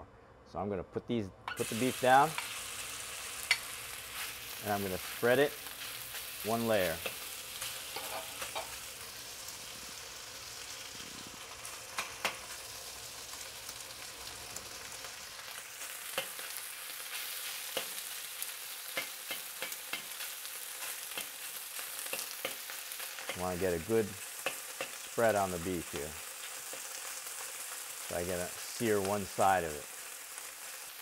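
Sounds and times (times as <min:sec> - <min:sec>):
beef sizzling in a wok: 0:01.5 - 0:31.0
sharp oil crackles: 0:01.6 - 0:31.0.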